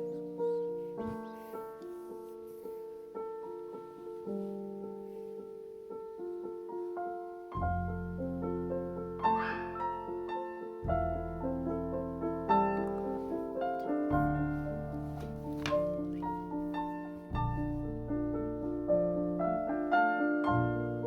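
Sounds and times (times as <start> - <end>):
low bass piano chords: 0.0 - 21.0
piano melody: 0.0 - 21.0.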